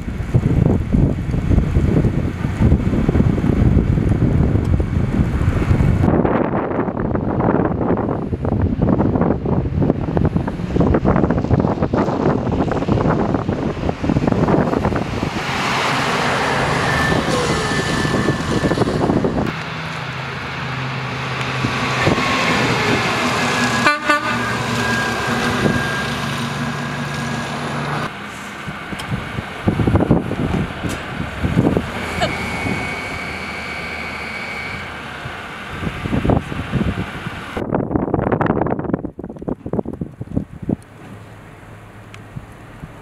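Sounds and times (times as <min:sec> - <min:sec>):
truck engines passing: 0:00.0 - 0:37.7, 0:40.3 - 0:43.0
wind gusting on microphone: 0:00.0 - 0:43.0.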